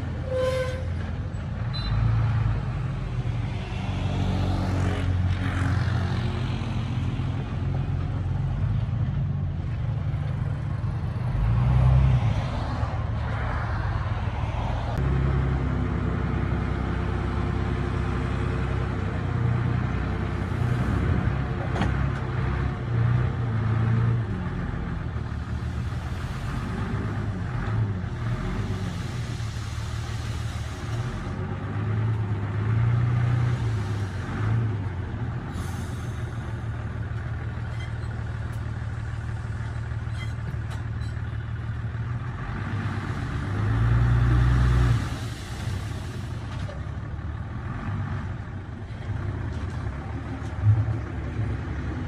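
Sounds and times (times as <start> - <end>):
diesel engine revving: 1.0 - 40.1, 41.4 - 52.0.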